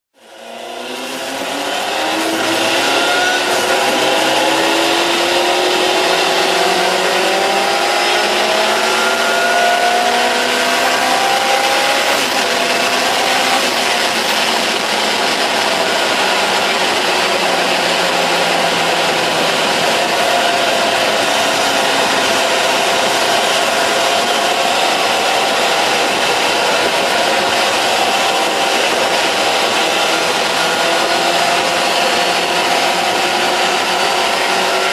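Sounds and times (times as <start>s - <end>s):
motorcycle engine accelerating: 0.2s - 34.9s
wind rush on microphone: 0.5s - 34.9s.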